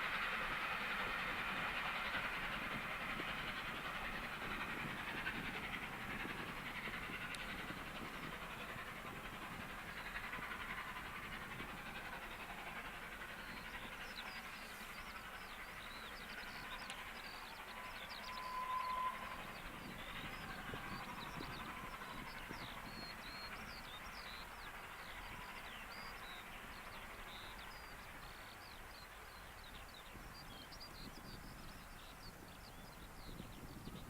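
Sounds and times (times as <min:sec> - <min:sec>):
steady whistle tone: 0:00.0 - 0:32.1.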